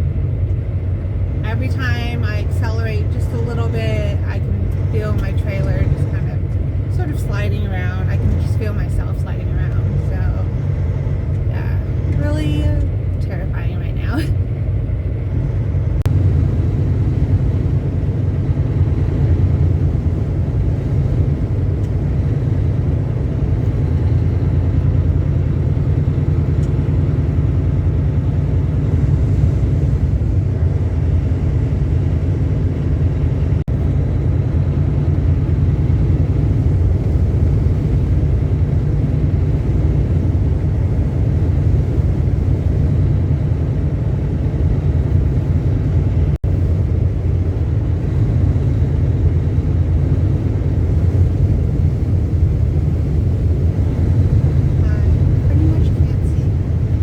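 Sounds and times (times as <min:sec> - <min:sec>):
diesel truck engine rumble: 0:00.0 - 0:57.0
road noise: 0:00.0 - 0:57.0.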